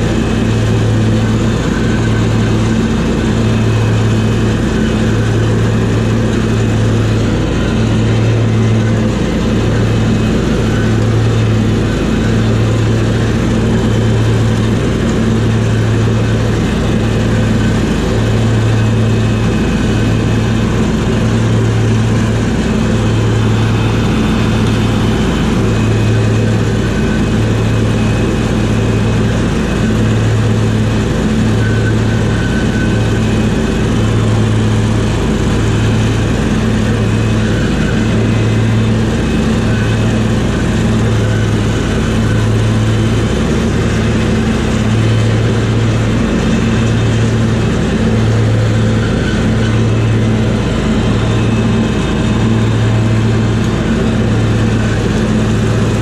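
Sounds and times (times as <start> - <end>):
lawn tractor engine running: 0.0 - 56.0.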